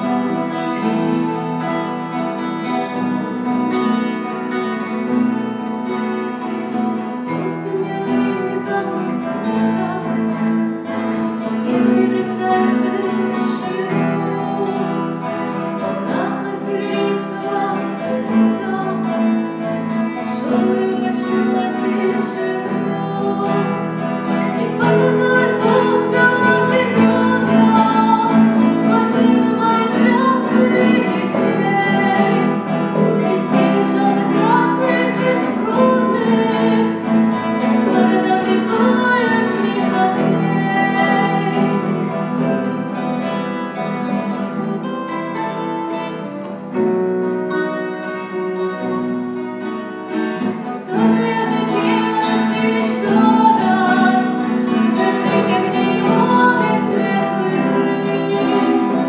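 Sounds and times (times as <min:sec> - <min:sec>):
woman singing lead: 0:00.0 - 0:43.9, 0:49.4 - 0:59.0
keyboard: 0:00.0 - 0:59.0
strummed acoustic guitars: 0:00.0 - 0:59.0.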